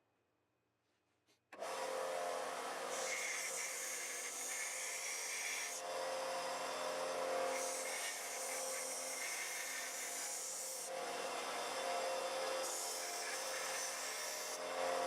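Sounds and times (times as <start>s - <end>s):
belt sander grinding steel: 1.8s - 15.0s.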